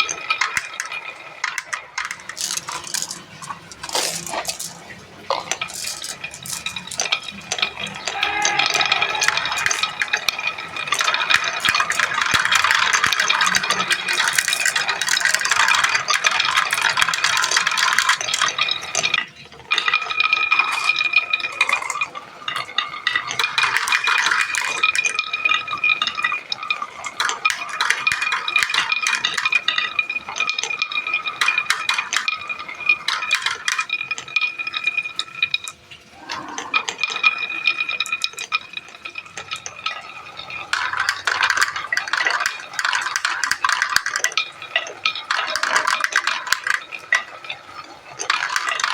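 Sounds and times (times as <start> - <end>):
marbles rattling down tracks: 0.0 - 48.9
steady ringing tone: 0.0 - 48.9.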